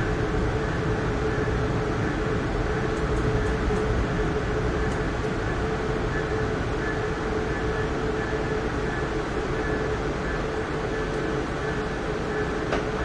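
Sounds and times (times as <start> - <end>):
mid-pitched hum: 0.0 - 13.0
passenger train running: 0.0 - 13.0.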